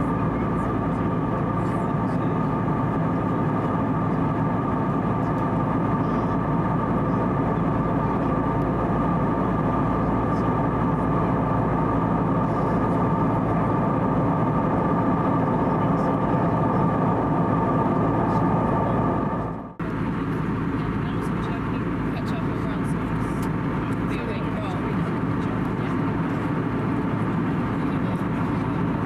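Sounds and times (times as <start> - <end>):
airflow and engine noise in cabin: 0.0 - 29.0
faint steady hum: 0.0 - 29.0.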